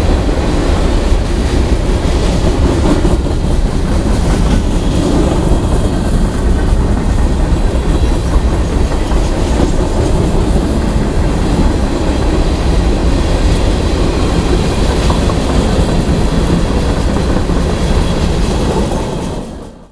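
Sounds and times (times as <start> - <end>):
freight train wheels rumbling on rail: 0.0 - 19.9
faint clickety-clack: 2.2 - 19.9.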